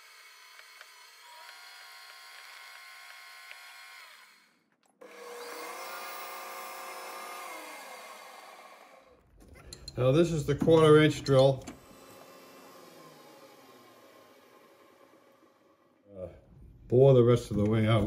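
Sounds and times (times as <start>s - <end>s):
lathe motor whine: 0.0s - 9.9s, 10.5s - 16.0s.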